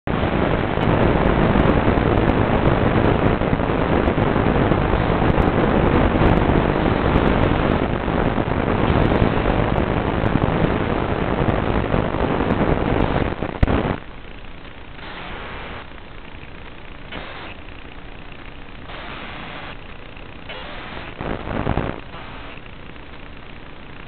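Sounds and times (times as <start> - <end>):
loud static hiss: 0.0 - 24.0.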